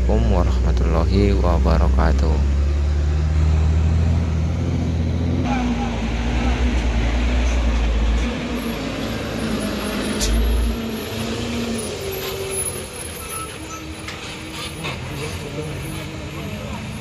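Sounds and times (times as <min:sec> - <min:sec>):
diesel truck engine passing: 0:00.0 - 0:17.0.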